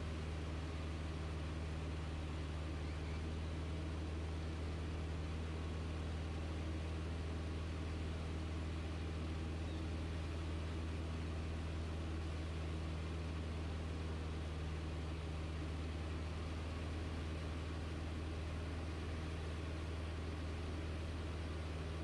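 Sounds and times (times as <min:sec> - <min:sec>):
light aircraft engine drone: 0:00.0 - 0:22.0.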